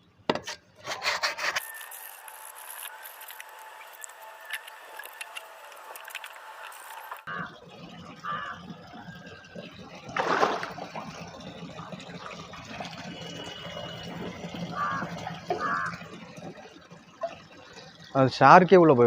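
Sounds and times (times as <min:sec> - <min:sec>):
water splashing in aquarium: 0:01.6 - 0:19.0.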